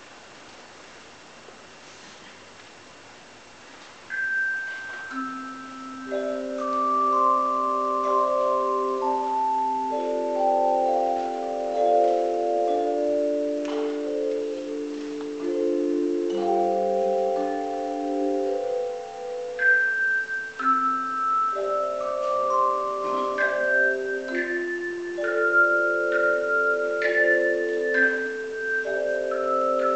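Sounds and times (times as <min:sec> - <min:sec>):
tone chimes playing a hymn: 0:04.1 - 0:29.9.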